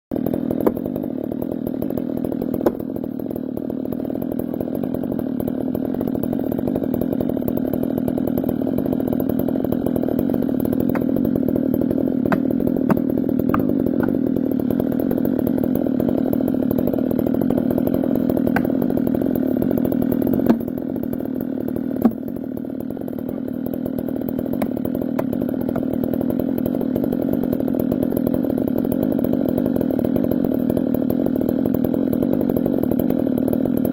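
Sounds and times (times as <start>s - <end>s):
chainsaw running: 0.1s - 33.9s.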